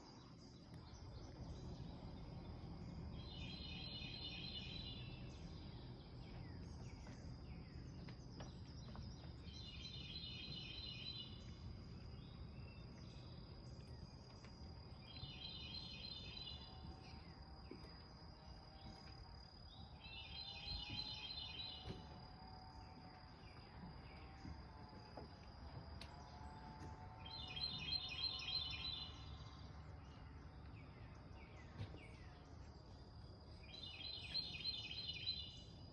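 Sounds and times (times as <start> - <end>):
low background rumble: 0.0 - 34.2
faint high-pitched hum: 0.0 - 35.9.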